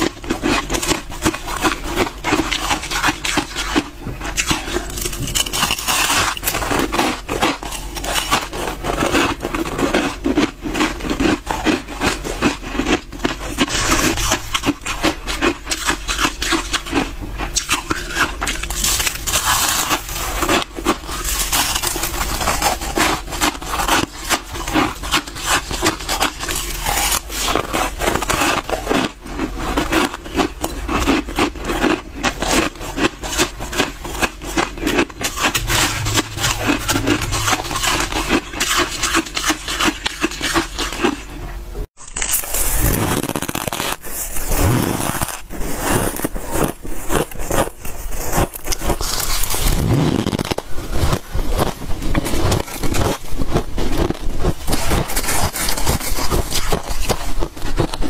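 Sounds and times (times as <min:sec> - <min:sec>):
freezer frost being scraped: 0:00.0 - 0:58.0.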